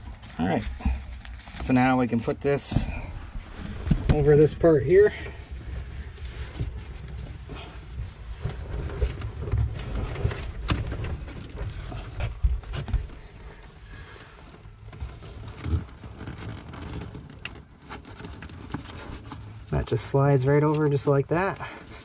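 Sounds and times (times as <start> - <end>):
plastic hose rubbing and knocking: 0.0 - 22.0.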